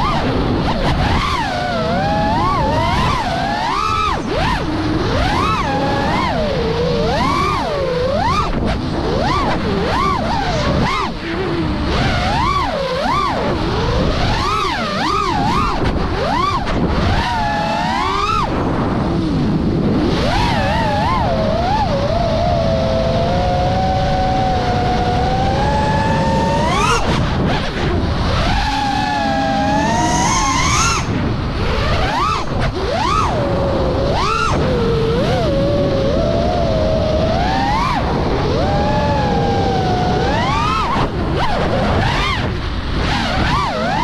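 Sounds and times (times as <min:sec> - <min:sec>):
quadcopter motors whining: 0:00.0 - 0:44.0
wind noise: 0:00.0 - 0:44.0.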